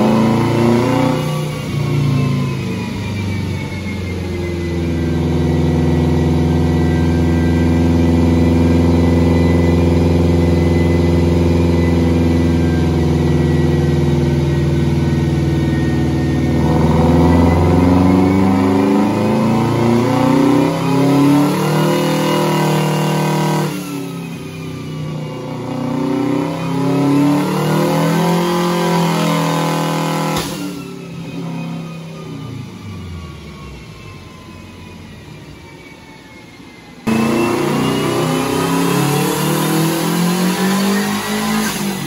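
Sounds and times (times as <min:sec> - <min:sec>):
car engine running hard: 0:00.0 - 0:35.8, 0:37.0 - 0:42.0.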